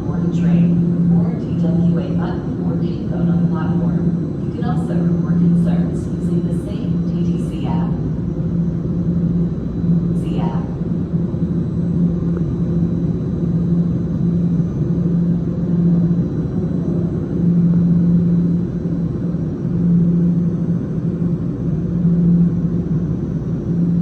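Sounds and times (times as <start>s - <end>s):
low pulsing hum: 0.0s - 24.0s
subway train rumble: 0.0s - 24.0s.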